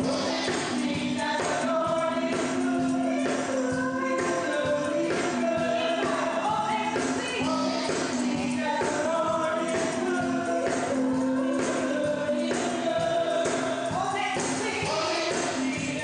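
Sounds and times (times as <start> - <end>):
gospel choir singing: 0.0 - 16.0
tambourine shaking: 0.0 - 16.0.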